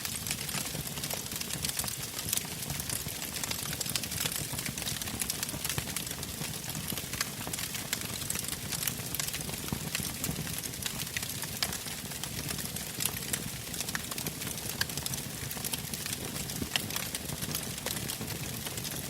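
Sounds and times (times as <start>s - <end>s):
campfire pops and crackles: 0.0s - 19.0s
low rumble of flames: 0.1s - 19.0s.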